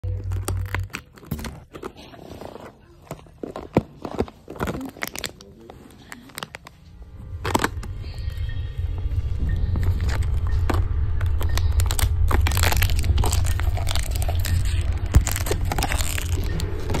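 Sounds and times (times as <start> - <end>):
dog chewing plastic bottle: 0.0 - 6.8, 10.0 - 17.0.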